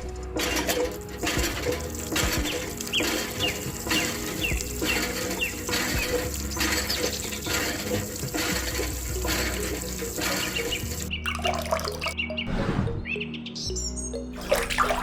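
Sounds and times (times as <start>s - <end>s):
water gushing from hand pump: 0.0s - 12.2s, 14.4s - 15.0s.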